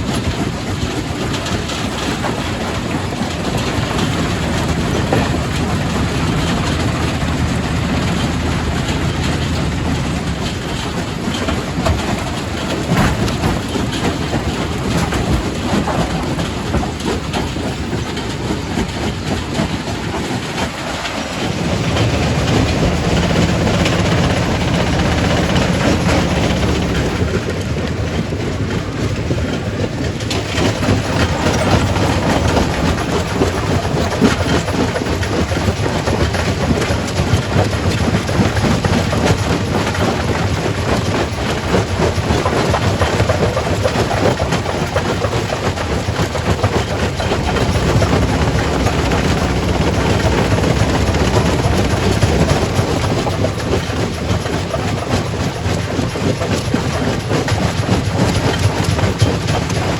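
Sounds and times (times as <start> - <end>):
rock crusher rumbling: 0.0 - 59.9.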